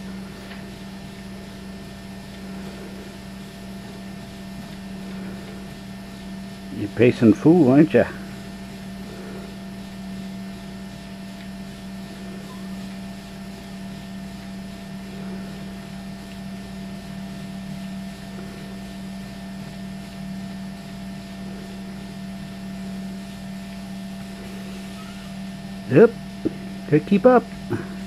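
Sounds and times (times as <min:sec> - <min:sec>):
treadmill belt hiss: 0:00.0 - 0:28.0
treadmill motor hum: 0:00.0 - 0:28.0.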